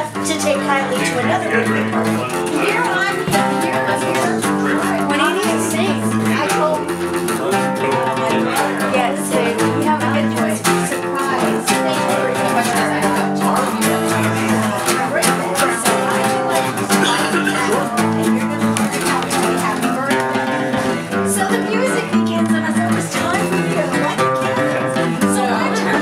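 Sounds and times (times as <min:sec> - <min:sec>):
acoustic guitars playing chords: 0:00.0 - 0:26.0.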